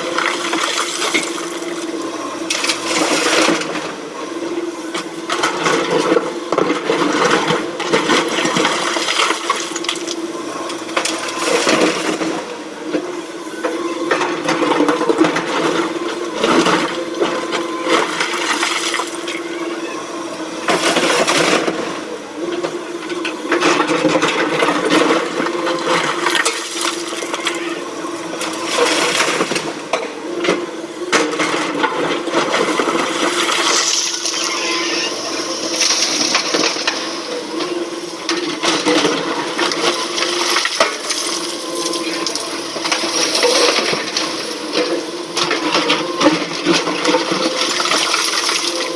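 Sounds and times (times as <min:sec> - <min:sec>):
excavator engine humming: 0:00.0 - 0:48.9.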